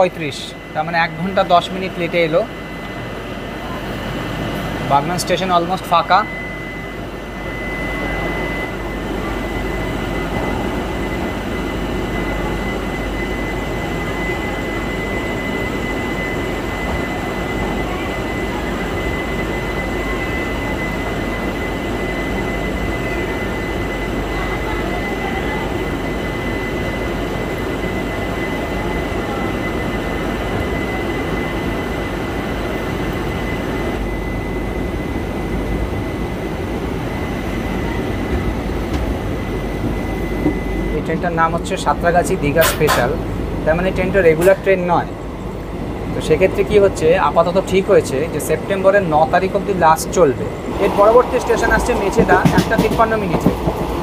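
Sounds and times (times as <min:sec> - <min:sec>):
high-pitched whine: 0:00.0 - 0:54.0
passenger train running: 0:00.0 - 0:54.0.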